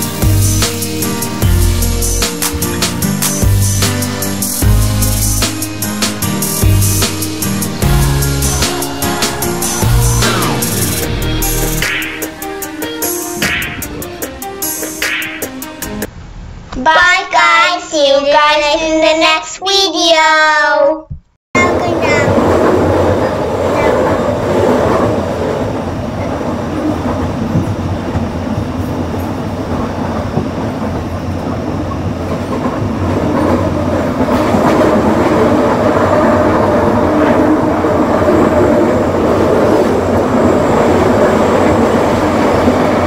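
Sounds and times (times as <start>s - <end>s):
train rumble and rail noise: 0.0s - 15.0s, 21.6s - 43.0s.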